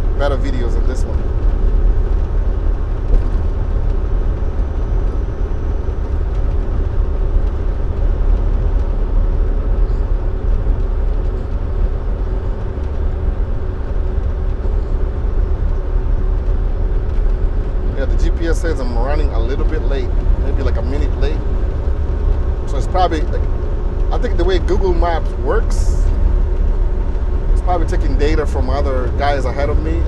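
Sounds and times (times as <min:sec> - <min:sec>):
diesel engine rumble: 0:00.0 - 0:30.0
faint hum: 0:00.0 - 0:30.0
road noise: 0:00.0 - 0:30.0.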